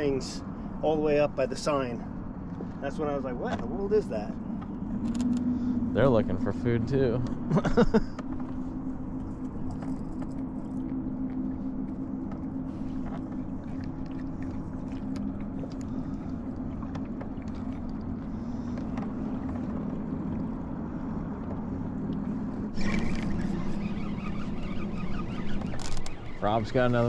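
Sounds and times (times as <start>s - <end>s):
electric trolling motor humming: 3.9s - 27.0s.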